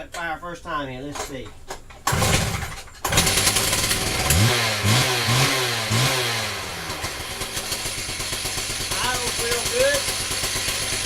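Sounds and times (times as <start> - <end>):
cut-off saw engine revving and idling: 2.1 - 11.0.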